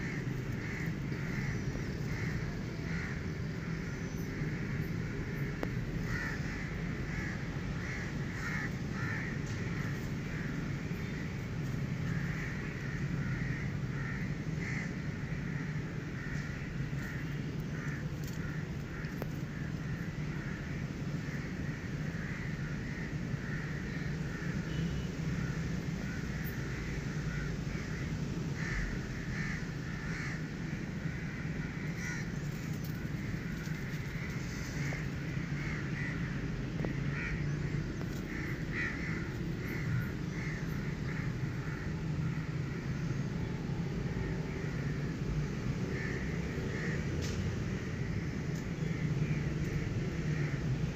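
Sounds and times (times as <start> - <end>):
birds calling: 0.0 - 50.9.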